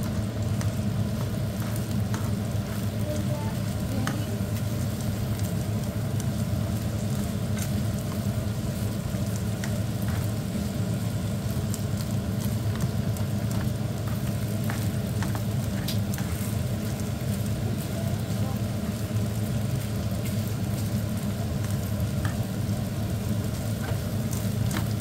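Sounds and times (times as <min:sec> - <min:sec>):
rice sizzling in a frying pan: 0:00.0 - 0:25.0
steady low hum: 0:00.0 - 0:25.0.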